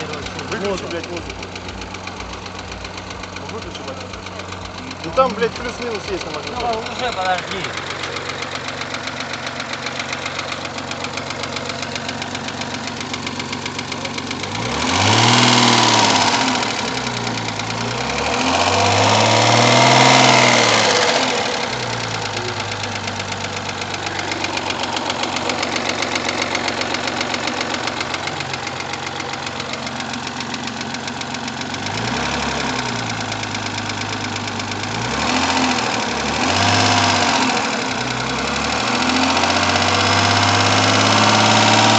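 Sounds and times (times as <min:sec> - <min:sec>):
car engine idling with knock: 0:00.0 - 0:41.9
engine revving: 0:00.0 - 0:41.9.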